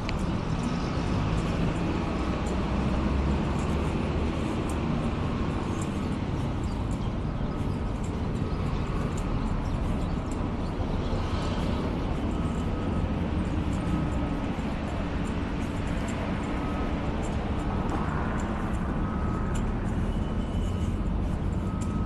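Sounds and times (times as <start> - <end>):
street ambience rumble: 0.0 - 22.0.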